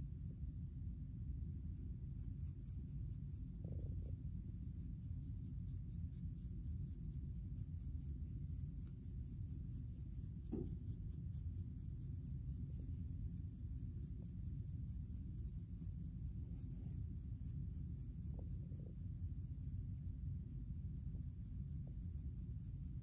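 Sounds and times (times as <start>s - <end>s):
comb scratching scalp: 1.6s - 23.0s.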